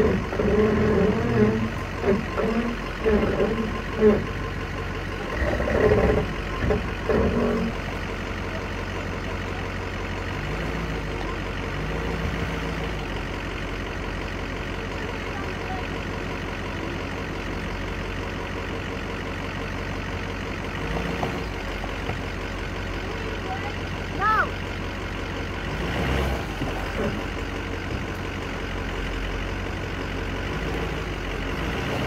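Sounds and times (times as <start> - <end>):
pickup engine idling: 0.0 - 32.0.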